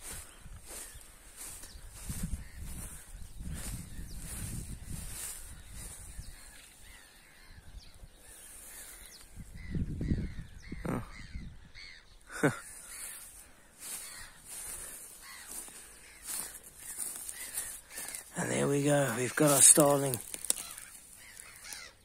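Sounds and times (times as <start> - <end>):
birds chirping and squawking: 0.0 - 22.0.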